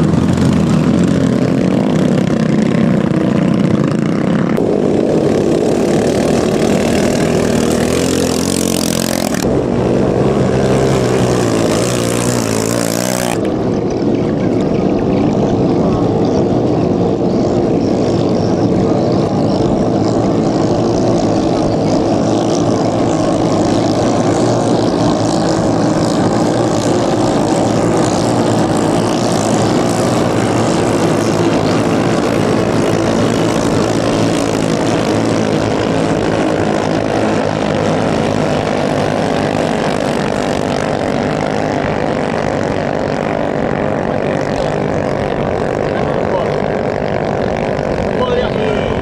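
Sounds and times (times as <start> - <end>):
boat engines high-revving drone: 0.0 - 49.0.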